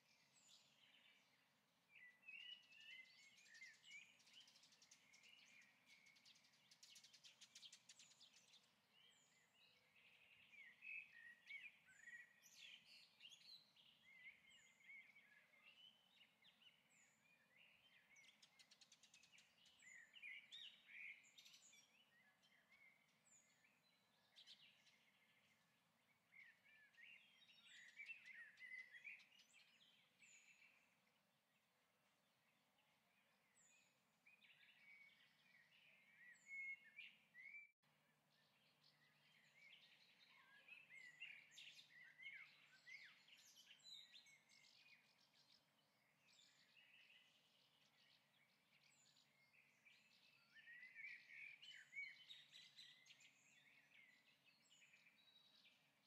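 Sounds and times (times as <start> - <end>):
faint birdsong: 0.0 - 56.0.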